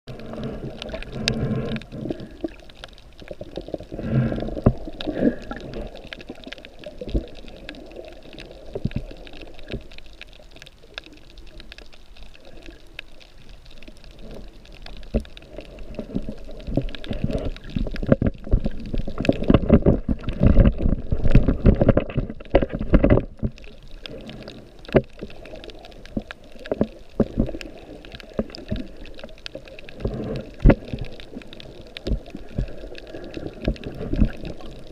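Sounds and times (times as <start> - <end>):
muffled underwater rumble and sloshing: 0.1 - 34.9.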